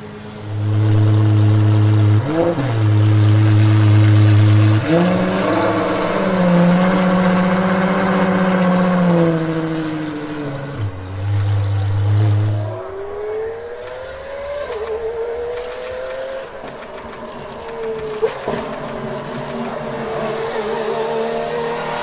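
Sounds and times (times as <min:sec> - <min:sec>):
car engine revving and accelerating: 0:00.0 - 0:22.0.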